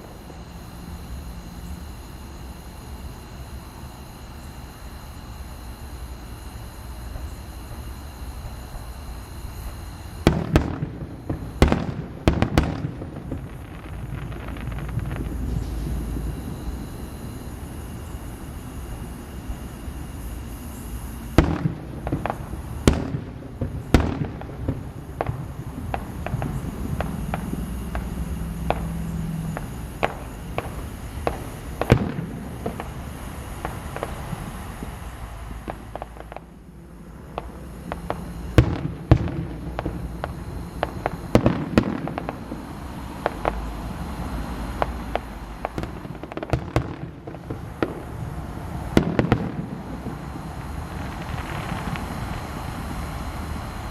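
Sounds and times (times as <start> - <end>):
low rumble of bursts: 0.0 - 53.9
fireworks bangs and crackles: 8.5 - 53.9.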